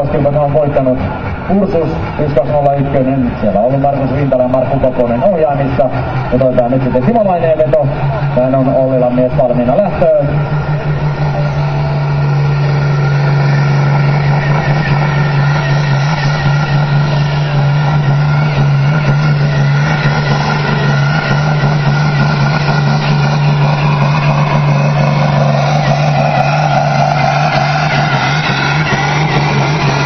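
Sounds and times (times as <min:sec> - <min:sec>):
higher engine tone: 0:00.0 - 0:30.0
tractor diesel engine running hard: 0:00.0 - 0:30.0.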